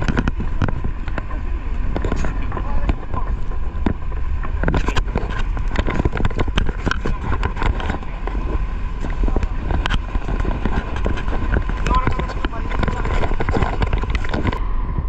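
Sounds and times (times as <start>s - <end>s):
rattles and knocks: 0.0s - 14.6s
truck engine rumbling: 0.0s - 15.0s
wind noise on microphone: 0.0s - 15.0s.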